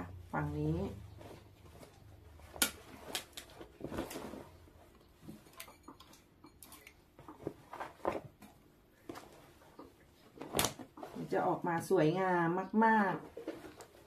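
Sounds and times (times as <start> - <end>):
cloth rustling: 0.0 - 14.0.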